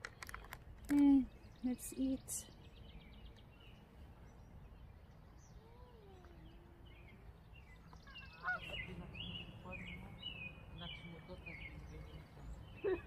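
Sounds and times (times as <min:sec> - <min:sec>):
birds calling: 0:00.0 - 0:13.0
chirping bird calls: 0:01.2 - 0:13.0.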